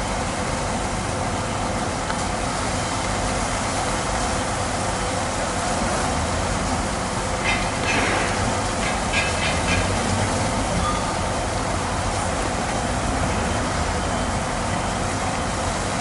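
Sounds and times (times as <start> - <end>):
water jets spraying: 0.0 - 16.0.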